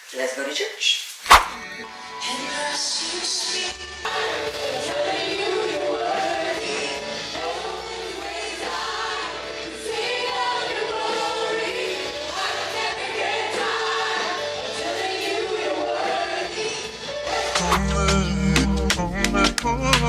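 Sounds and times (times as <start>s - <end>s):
choir singing with music: 1.5s - 20.0s.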